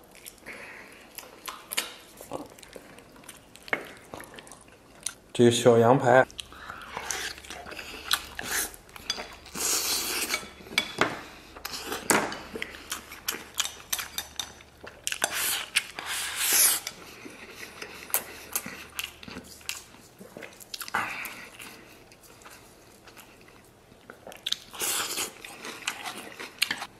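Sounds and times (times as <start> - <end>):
close-up chewing: 0.0 - 5.2, 6.2 - 26.9.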